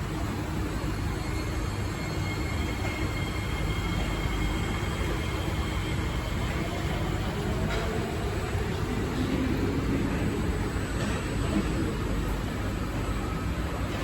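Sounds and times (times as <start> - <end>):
metro train equipment hum: 0.0 - 14.0.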